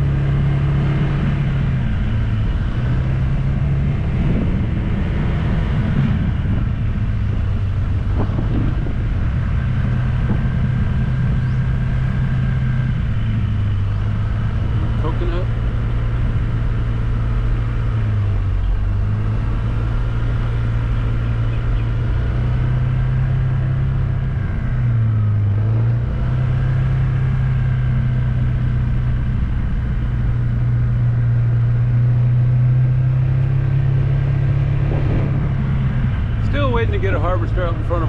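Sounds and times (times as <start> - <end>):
vehicle engine driving: 0.0 - 38.0.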